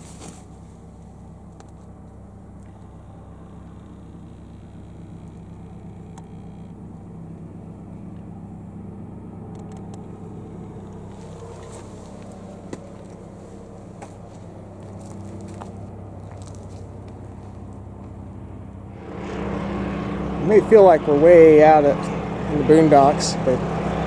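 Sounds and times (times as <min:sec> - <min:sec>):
vehicle rumbling: 0:00.0 - 0:24.0.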